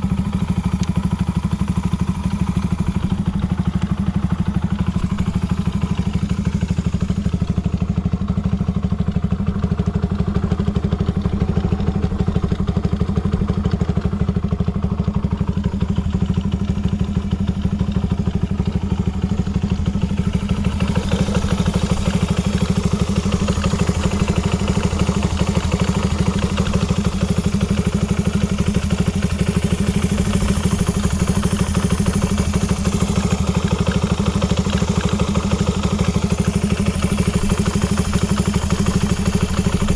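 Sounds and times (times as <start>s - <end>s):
motorbike engine idling: 0.0s - 39.9s.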